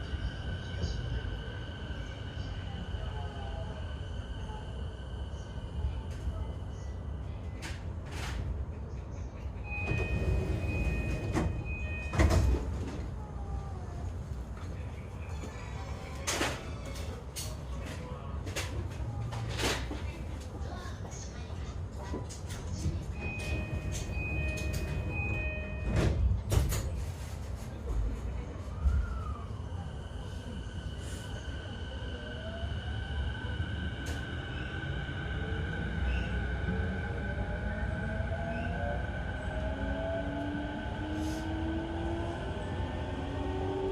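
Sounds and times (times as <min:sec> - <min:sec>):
train wheel and rail rumble: 0:00.0 - 0:43.9.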